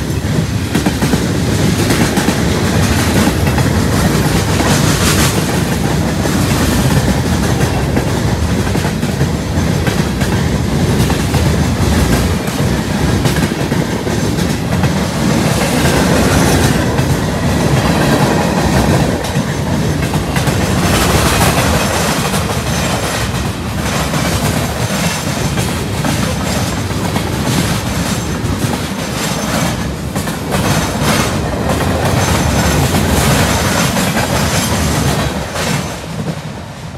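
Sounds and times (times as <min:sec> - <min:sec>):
clickety-clack of wheels over track: 0:00.0 - 0:36.9
train wheels rumbling on rails: 0:00.0 - 0:36.9.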